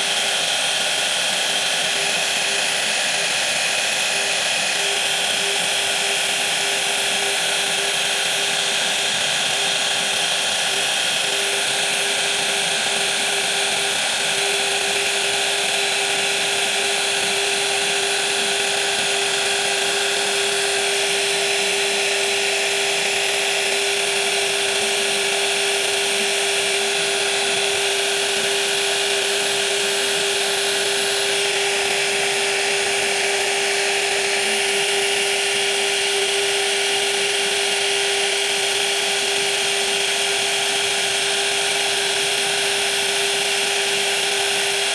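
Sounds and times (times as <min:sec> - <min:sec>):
woodworking power tool whining: 0:00.0 - 0:44.9.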